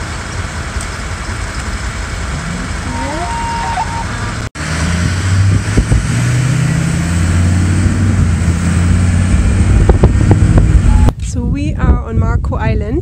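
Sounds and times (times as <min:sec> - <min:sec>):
truck engine and road drone: 0:00.0 - 0:13.0.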